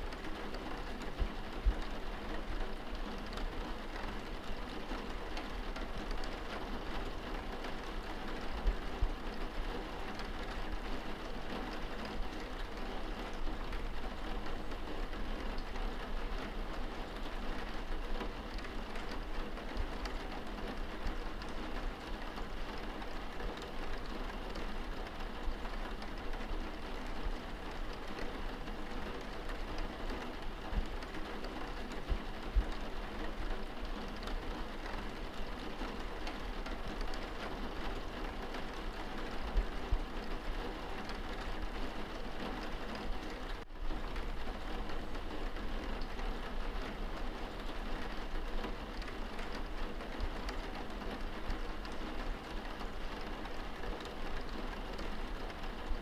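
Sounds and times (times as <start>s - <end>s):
rain falling on window glass: 0.0s - 56.0s.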